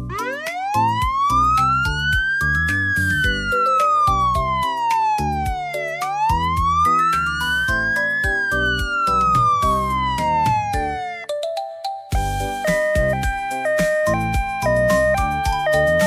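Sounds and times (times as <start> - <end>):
emergency siren wailing: 0.0 - 11.3, 12.3 - 16.0
children's music with steady beat: 0.0 - 16.0.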